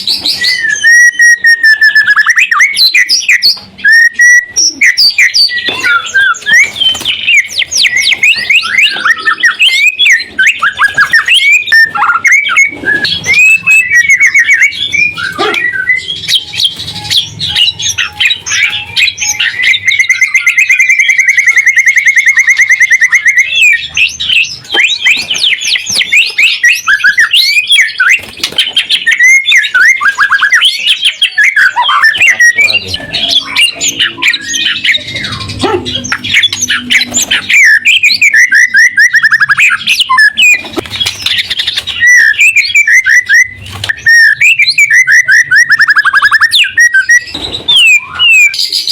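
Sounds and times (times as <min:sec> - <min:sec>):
bird singing whistles and chatter: 0:00.0 - 0:48.9.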